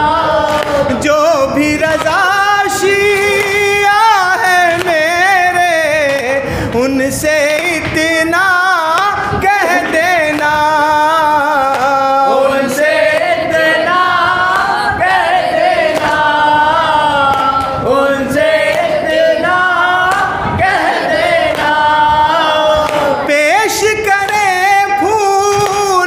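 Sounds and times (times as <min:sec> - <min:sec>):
man singing unaccompanied: 0:00.0 - 0:14.4, 0:15.1 - 0:26.0.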